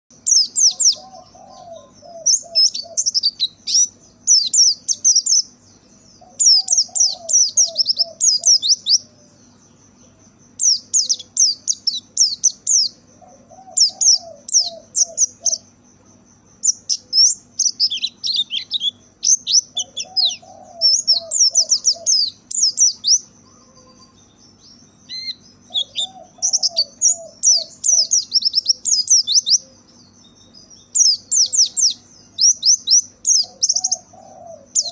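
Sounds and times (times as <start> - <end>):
bird twittering: 0.1 - 15.8, 16.5 - 34.9
lower run of short bird notes: 0.1 - 34.9.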